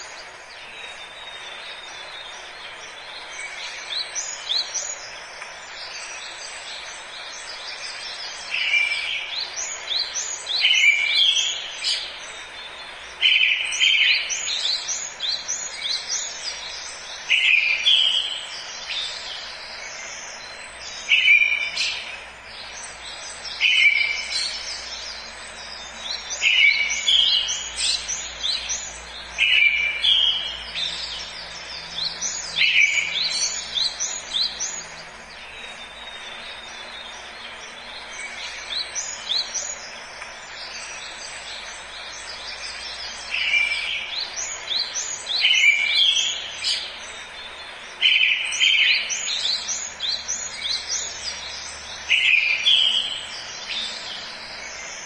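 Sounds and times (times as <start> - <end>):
faint steady hiss: 0.0 - 55.0
songbirds singing: 0.0 - 55.0.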